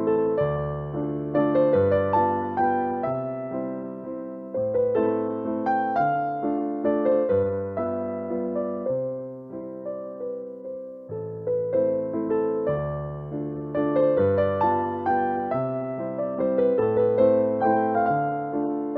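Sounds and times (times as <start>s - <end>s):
gentle electric piano melody: 0.0s - 18.9s.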